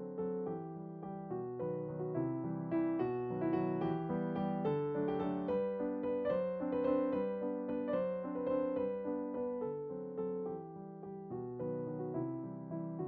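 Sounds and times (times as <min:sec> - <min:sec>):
piano-like keyboard music: 0:00.0 - 0:13.0.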